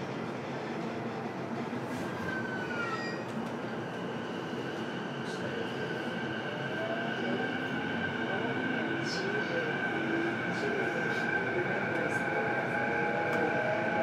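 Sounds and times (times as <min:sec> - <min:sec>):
train wheel and rail rumble: 0:00.0 - 0:14.0.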